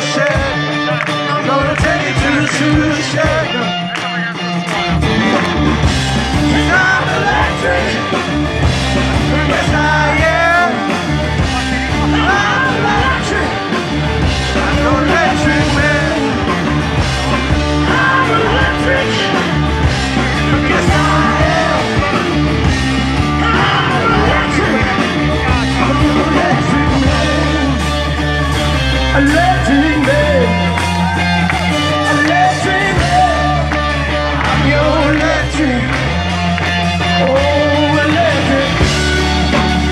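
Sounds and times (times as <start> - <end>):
bass guitar: 0.0 - 39.9
drums: 0.0 - 39.9
electric guitars: 0.0 - 39.9.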